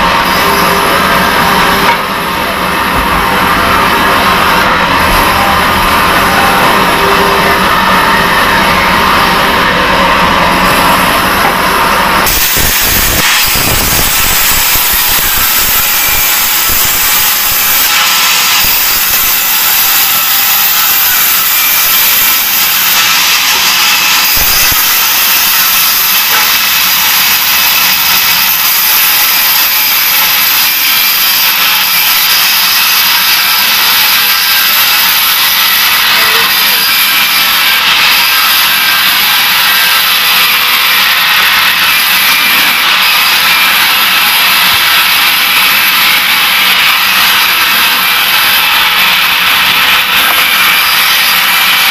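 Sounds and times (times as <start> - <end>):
bandsaw blade cutting log: 0.0 - 51.9.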